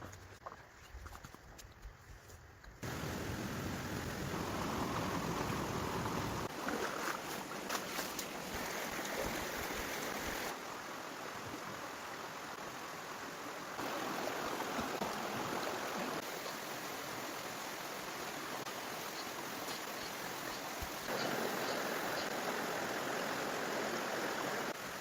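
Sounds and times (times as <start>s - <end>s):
rushing water: 2.8s - 25.0s.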